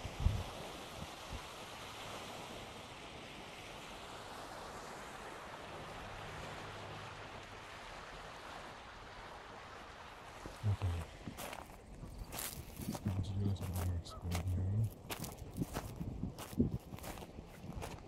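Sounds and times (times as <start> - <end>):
lake waves washing on shore: 0.0 - 18.0.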